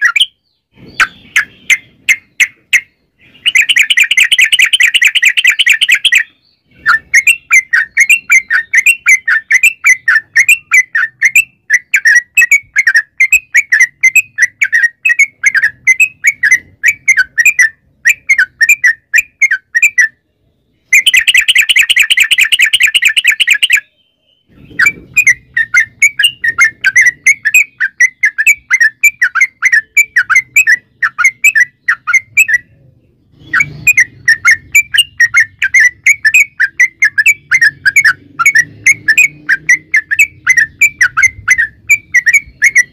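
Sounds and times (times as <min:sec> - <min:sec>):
bird chattering song: 0:00.0 - 0:42.9.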